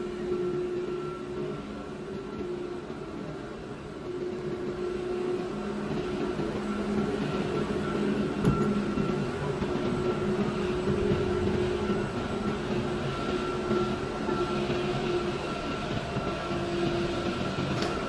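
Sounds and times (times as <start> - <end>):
extrusion line machine hum: 0.0 - 18.0.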